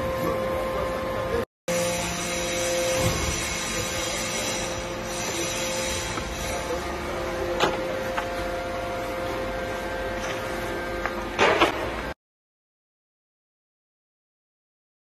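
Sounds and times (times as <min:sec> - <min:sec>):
factory machinery hum: 0:00.0 - 0:12.2.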